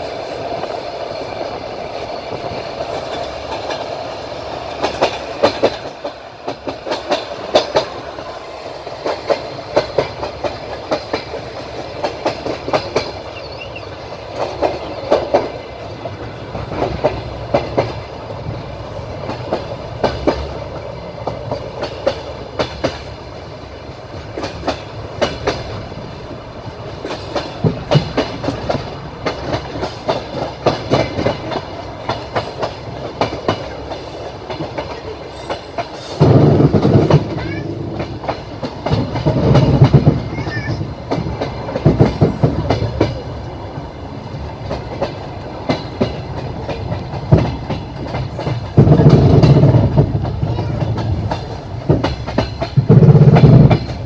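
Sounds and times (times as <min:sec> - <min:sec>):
rumble of train running gear: 0:00.0 - 0:54.0
train wheels clicking over rail joints: 0:00.0 - 0:54.0.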